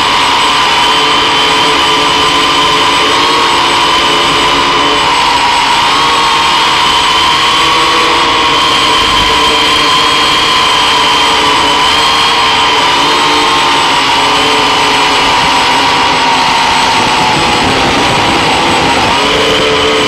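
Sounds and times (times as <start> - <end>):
drone motors and propellers whining: 0.0 - 20.0.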